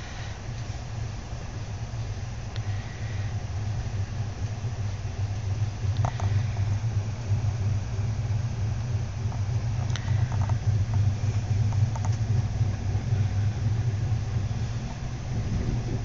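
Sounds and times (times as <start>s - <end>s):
train rumbling from inside: 0.0s - 16.0s.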